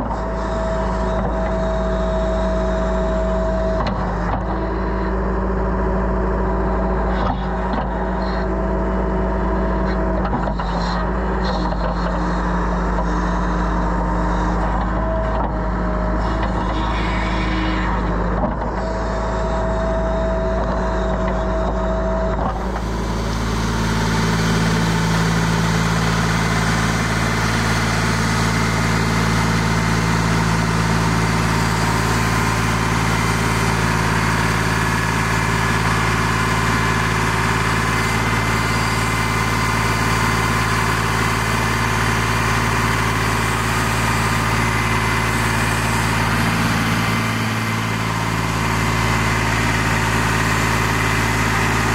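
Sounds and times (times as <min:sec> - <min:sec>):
heavy machinery engine humming: 0:00.0 - 0:51.9.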